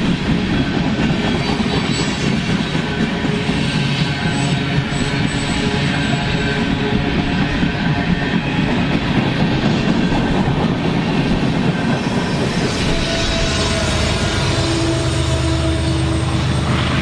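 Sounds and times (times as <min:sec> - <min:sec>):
diesel locomotive engine hum: 0:00.0 - 0:17.0
train wheels rumbling on rails: 0:00.0 - 0:17.0.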